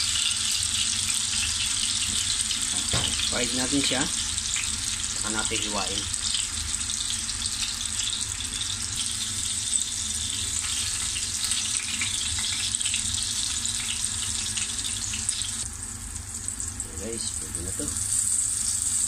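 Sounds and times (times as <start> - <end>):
tofu sizzling in hot oil: 0.0 - 19.0.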